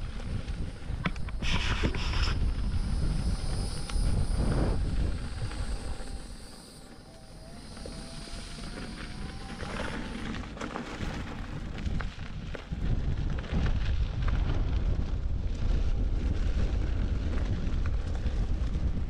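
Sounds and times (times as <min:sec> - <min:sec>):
grit crackling under tyre: 0:00.0 - 0:19.0
tyre rumble on sandy trail: 0:00.0 - 0:19.0
wind on microphone: 0:00.0 - 0:19.0.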